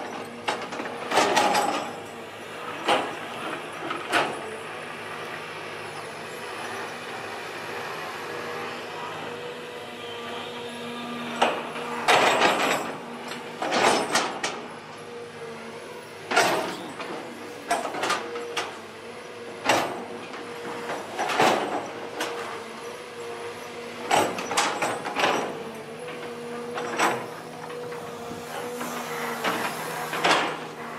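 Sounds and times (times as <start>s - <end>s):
excavator engine humming: 0.0s - 30.9s.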